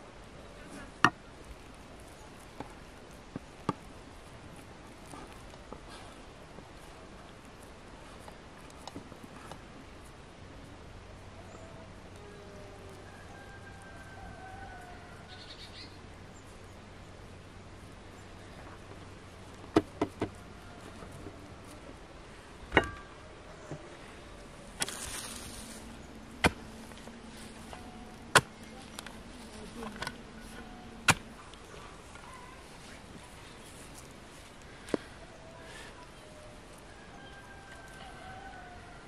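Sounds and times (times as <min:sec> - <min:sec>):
faint birdsong: 0:00.0 - 0:39.0.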